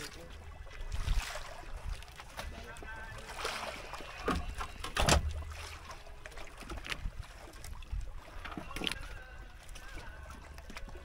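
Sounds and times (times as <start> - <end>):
water lapping at a hull: 0.0 - 11.0.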